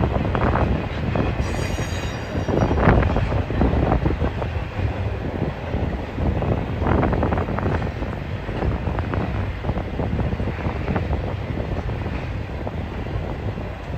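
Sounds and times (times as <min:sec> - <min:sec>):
train wheels clattering over rails: 0:00.0 - 0:13.9
wind buffeting microphone: 0:00.0 - 0:13.9.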